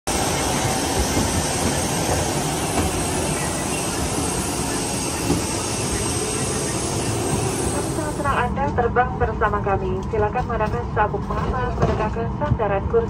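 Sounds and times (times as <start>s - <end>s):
jet aircraft engine noise: 0.1s - 12.9s.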